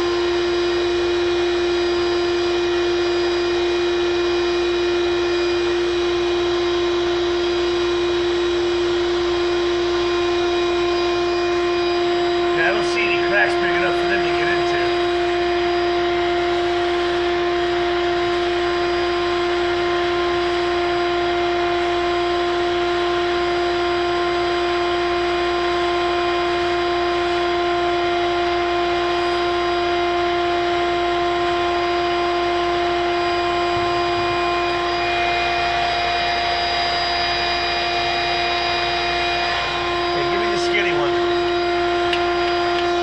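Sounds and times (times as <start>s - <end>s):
vacuum motor hum and whine: 0.0s - 43.0s.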